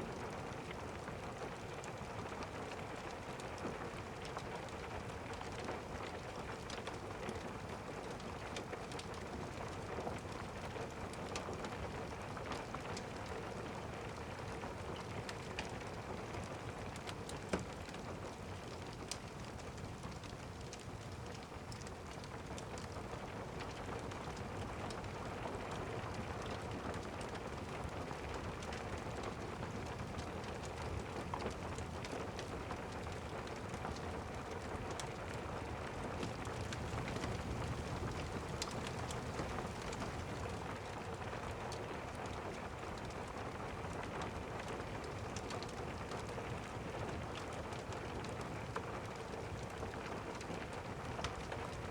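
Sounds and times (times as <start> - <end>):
rain pattering: 0.1 - 51.9.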